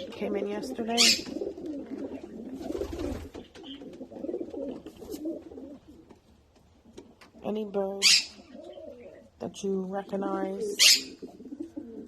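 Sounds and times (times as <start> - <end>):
pigeons cooing: 0.0 - 7.4, 8.0 - 9.4, 10.3 - 12.0.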